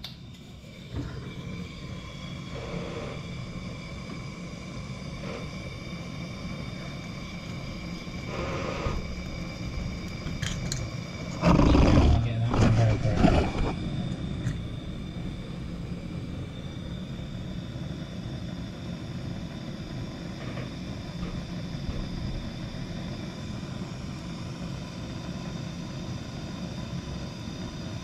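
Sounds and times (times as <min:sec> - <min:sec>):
gas blowtorch burning: 0:00.0 - 0:28.0.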